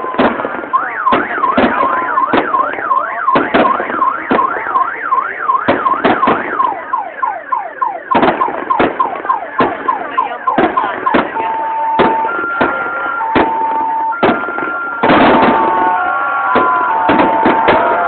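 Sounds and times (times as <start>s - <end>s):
electronic alarm siren wailing: 0.0s - 18.0s
fireworks bursting in sharp bangs: 0.0s - 18.0s.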